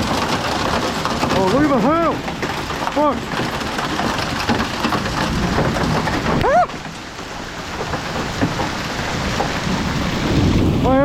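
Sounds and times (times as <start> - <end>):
hail and heavy rain pelting: 0.0 - 11.0.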